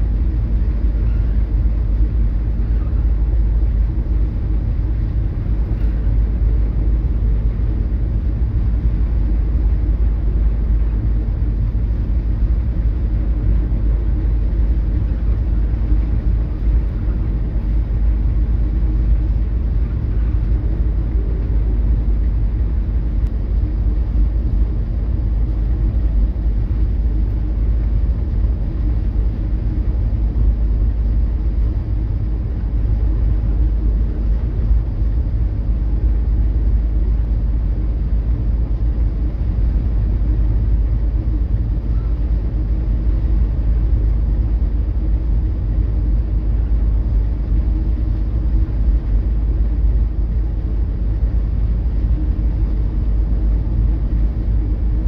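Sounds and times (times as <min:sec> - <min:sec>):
faint machinery hum: 0:00.0 - 0:55.0
ship low rumble: 0:00.0 - 0:55.0.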